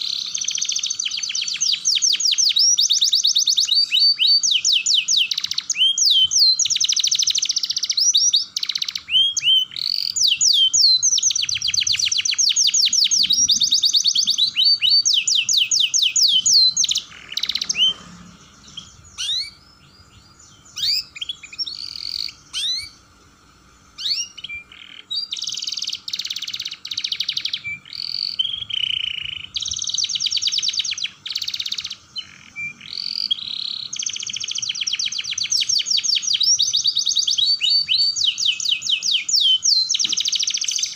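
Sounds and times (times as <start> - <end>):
canary trilling: 0.0 - 23.1, 23.9 - 40.9
canary chirps: 0.0 - 40.9.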